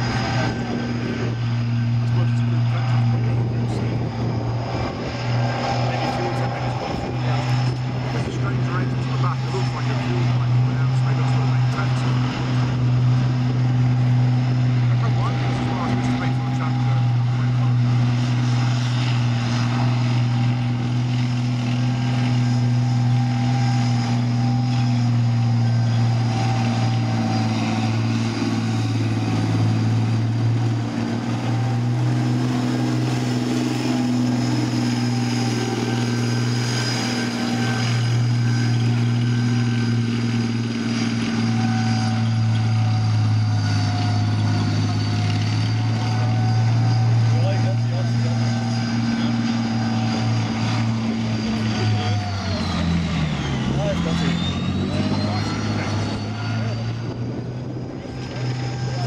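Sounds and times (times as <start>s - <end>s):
tracked vehicle diesel engine running: 0.0s - 59.0s.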